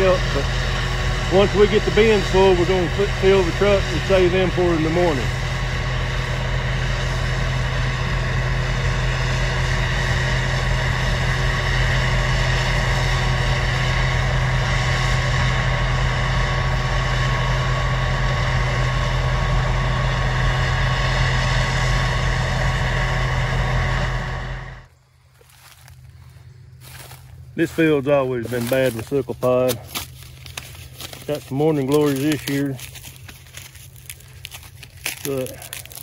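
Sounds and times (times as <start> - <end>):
combine harvester running: 0.0 - 36.0.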